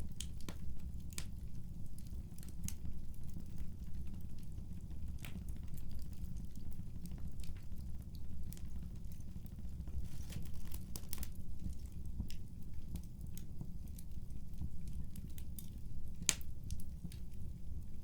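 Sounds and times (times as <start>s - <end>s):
fireplace crackling: 0.0s - 18.0s
low fire rumble: 0.0s - 18.0s.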